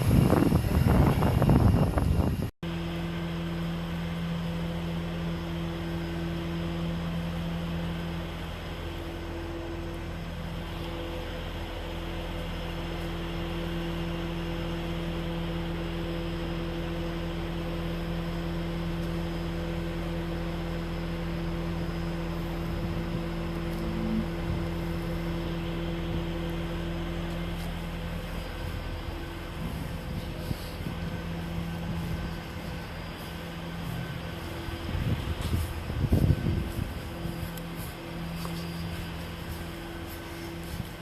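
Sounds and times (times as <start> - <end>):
motor humming: 0.0 - 41.0.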